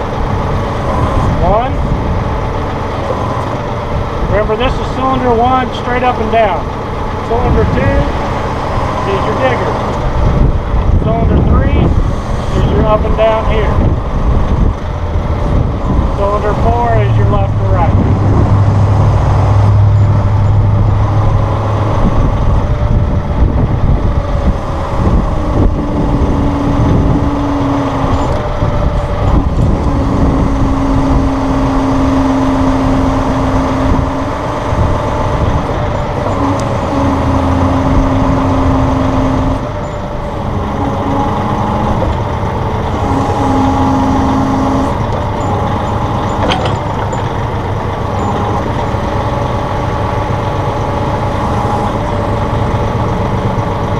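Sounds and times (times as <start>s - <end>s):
hydraulic whine: 0.0s - 53.9s
tractor diesel engine running: 0.0s - 53.9s.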